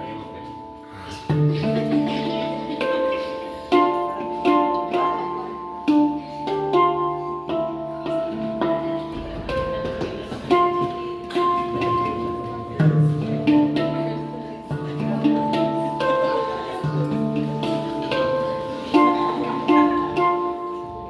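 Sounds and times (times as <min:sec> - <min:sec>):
handpan melody: 0:00.0 - 0:21.0.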